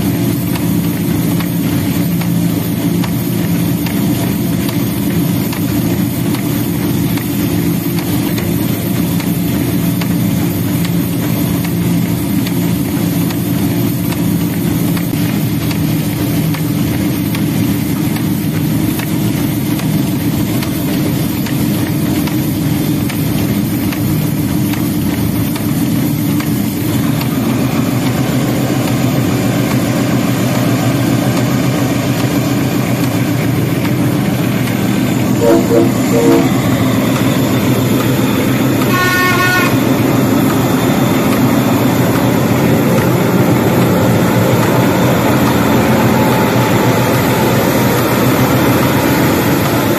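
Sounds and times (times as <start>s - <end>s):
diesel locomotive engine: 0.0s - 49.9s
train rumbling along track: 0.0s - 49.9s.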